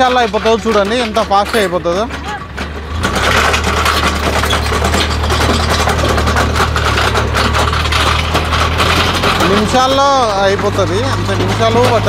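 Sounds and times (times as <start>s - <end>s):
auger crunching stony soil: 0.0s - 12.0s
tractor engine running: 0.0s - 12.0s.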